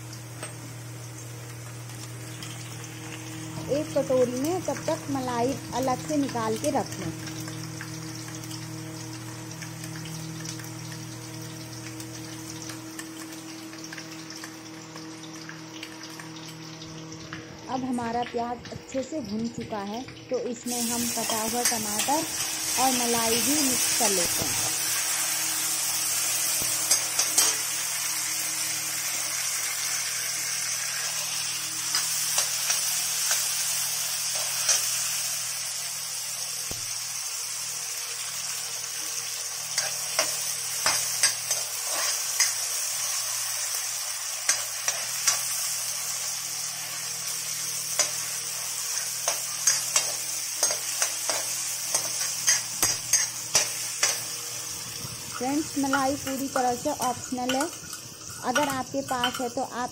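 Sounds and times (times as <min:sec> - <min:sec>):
onion and tomato sizzling in oil: 0:00.0 - 0:59.9.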